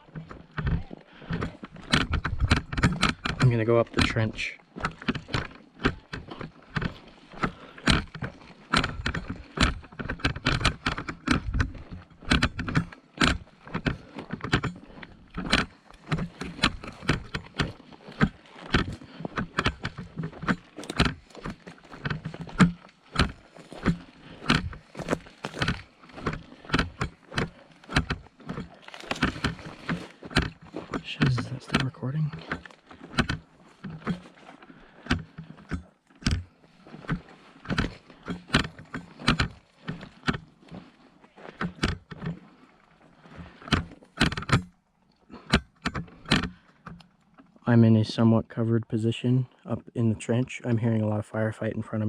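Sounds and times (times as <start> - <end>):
footsteps: 0.0 - 44.2
gear jostling and rattling: 0.0 - 48.4.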